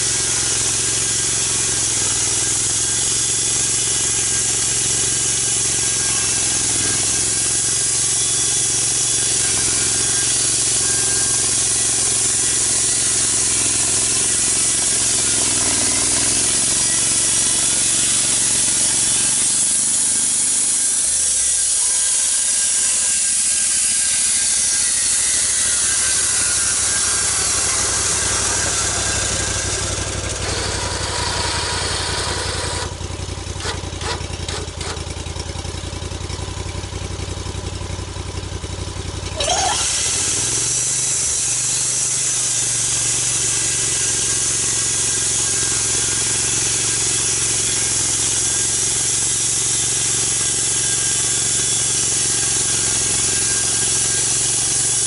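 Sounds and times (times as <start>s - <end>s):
saw cutting through log: 0.0s - 35.6s, 39.2s - 55.0s
engine idling: 0.0s - 55.0s
log mill engine running: 0.0s - 55.0s.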